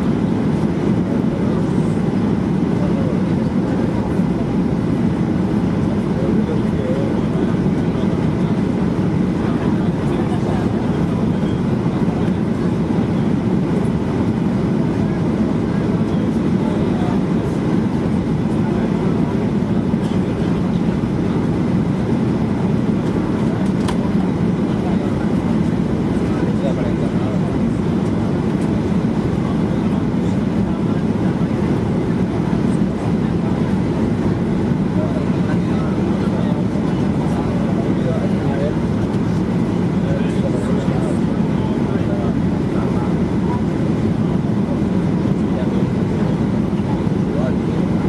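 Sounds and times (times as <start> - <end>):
jet engines in cabin: 0.0 - 48.0.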